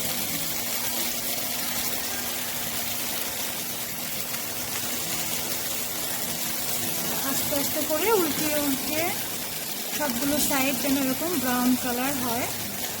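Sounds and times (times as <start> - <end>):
kebab skewers sizzling in a pan: 0.0 - 13.0.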